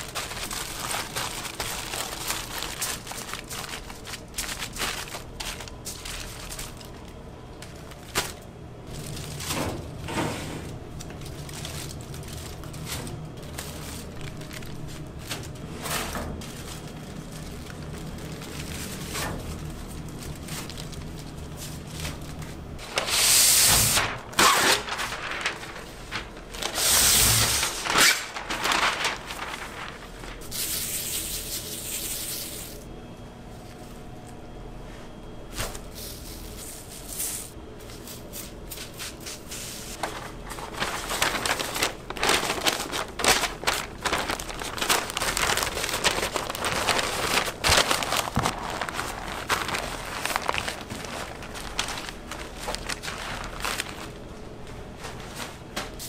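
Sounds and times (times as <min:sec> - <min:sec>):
aluminium foil crinkling: 0:00.0 - 0:32.8, 0:35.6 - 0:56.0.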